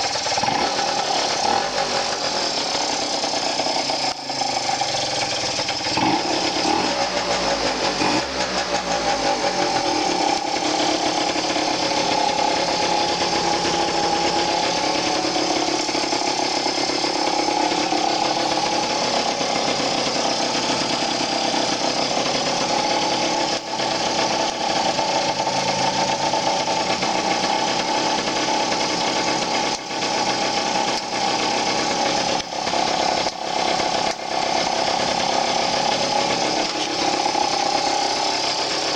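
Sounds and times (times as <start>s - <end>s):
scooter two-stroke engine running: 0.0s - 38.9s.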